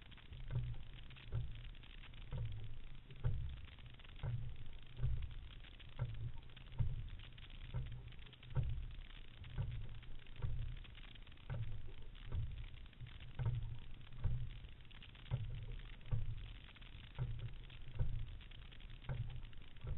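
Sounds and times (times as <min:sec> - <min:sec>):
water rushing along hull: 0:00.0 - 0:19.9.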